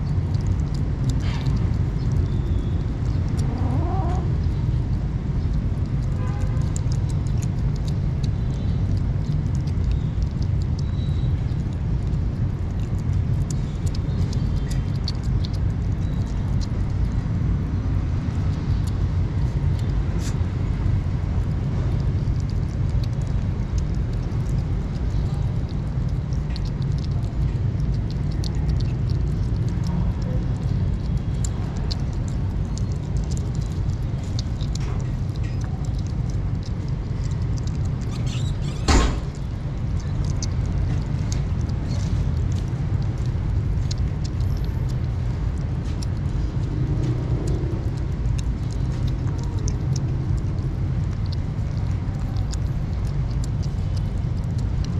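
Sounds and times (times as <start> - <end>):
kittens chewing wet food: 0.0 - 54.9
low rumble: 0.0 - 54.9.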